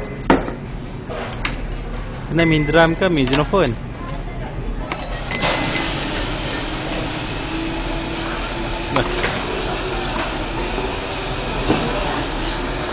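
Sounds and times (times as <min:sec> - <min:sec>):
murmur of voices: 0:02.3 - 0:12.9.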